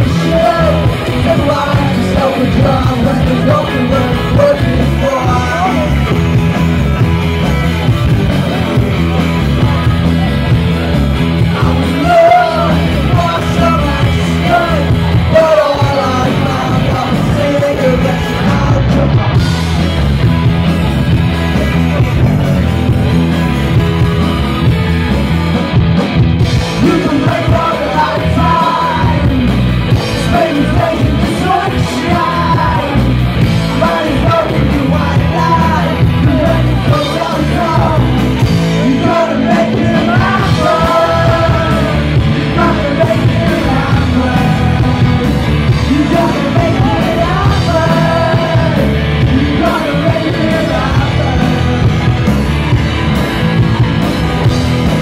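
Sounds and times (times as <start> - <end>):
live rock band playing: 0.0 - 55.0
sung lead vocal: 0.0 - 55.0.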